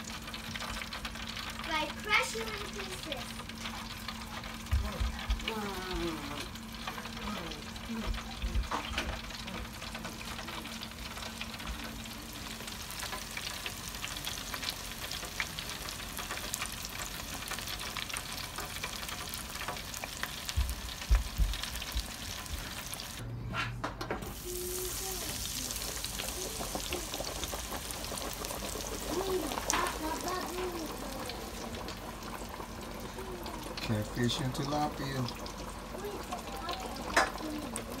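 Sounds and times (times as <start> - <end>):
fish deep-frying in hot oil: 0.0 - 23.2, 24.2 - 38.0.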